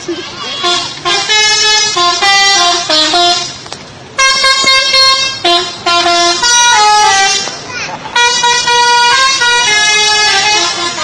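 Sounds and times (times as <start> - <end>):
multi-tone bus horn melody: 0.0 - 11.0.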